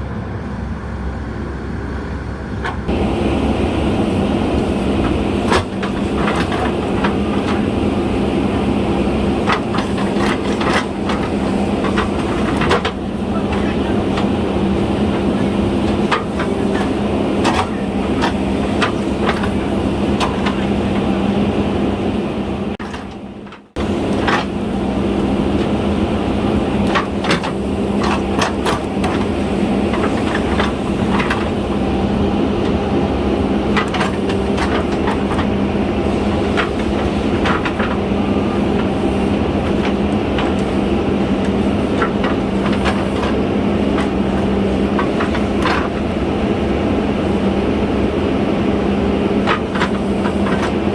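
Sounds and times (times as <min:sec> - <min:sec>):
diesel engine running: 0:00.0 - 0:50.9
digger knocks and clanks: 0:02.6 - 0:50.9.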